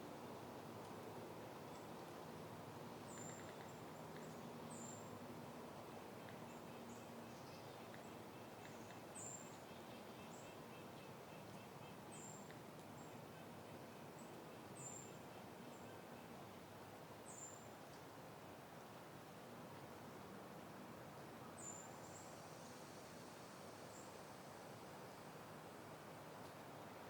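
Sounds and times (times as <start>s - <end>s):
soft wind through plants: 0.0s - 27.0s.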